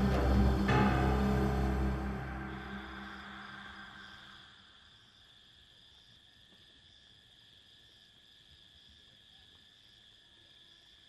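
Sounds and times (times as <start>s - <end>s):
faint chirring of night insects: 0.0s - 11.0s.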